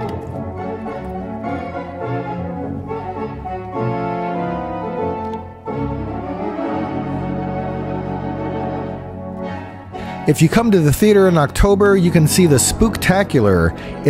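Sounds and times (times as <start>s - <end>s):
theatre organ chords: 0.0s - 14.0s.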